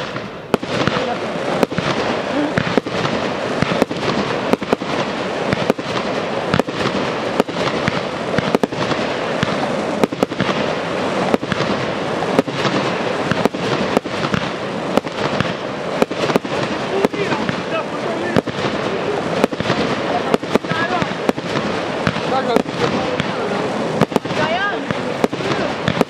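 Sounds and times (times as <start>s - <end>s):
firework shells bursting: 0.0s - 26.0s
fireworks crackling: 0.0s - 26.0s.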